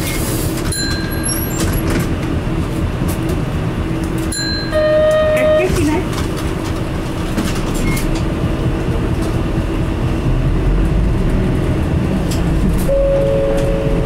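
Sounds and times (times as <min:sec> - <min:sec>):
interior rattles and clicks: 0:00.0 - 0:12.9
bus diesel engine: 0:00.0 - 0:14.0
road rumble: 0:00.0 - 0:14.0.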